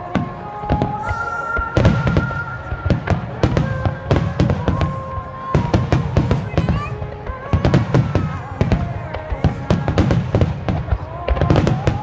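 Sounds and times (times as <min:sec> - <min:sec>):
fireworks booming and cracking: 0:00.0 - 0:12.0
music with long held notes: 0:00.0 - 0:12.0.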